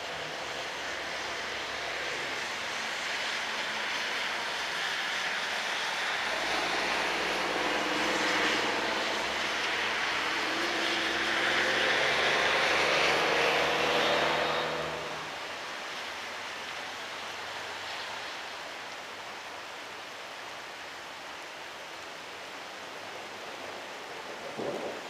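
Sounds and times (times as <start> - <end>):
engine drone: 0.0 - 25.0
rain hissing: 0.0 - 25.0.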